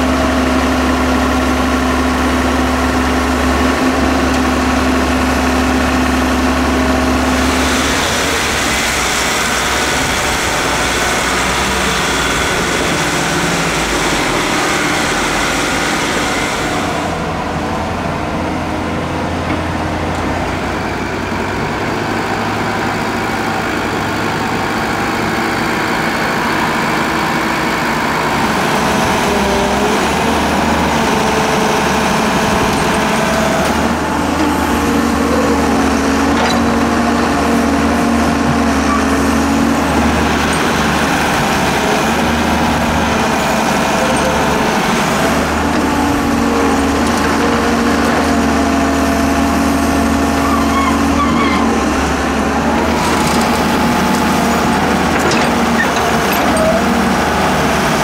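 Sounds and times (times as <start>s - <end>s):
dump truck engine running: 0.0s - 58.0s
excavator engine running: 0.0s - 58.0s.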